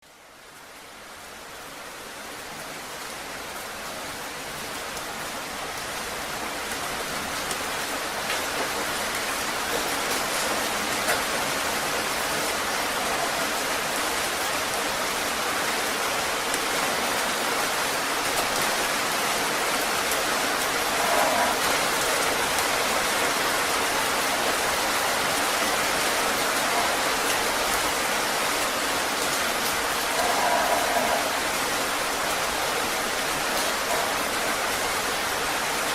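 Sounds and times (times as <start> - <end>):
heavy rain falling: 0.1 - 35.9.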